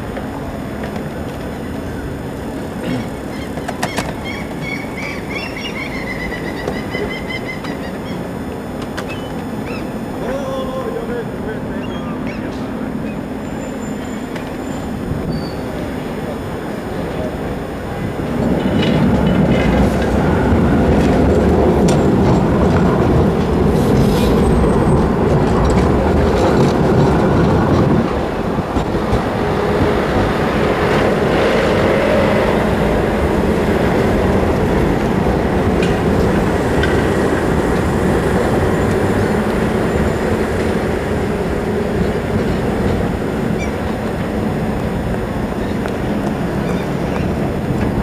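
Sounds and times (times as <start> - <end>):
city bus passing: 0.0 - 48.0
tram wheels rattling over tracks: 0.0 - 48.0.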